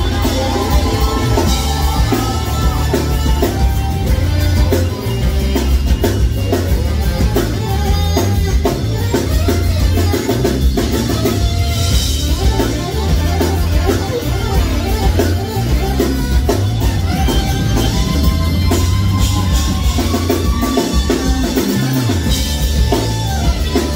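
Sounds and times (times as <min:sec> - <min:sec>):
drum kit: 0:00.0 - 0:23.9
heavy bass line: 0:00.0 - 0:23.9
saxophone playing: 0:00.0 - 0:23.9.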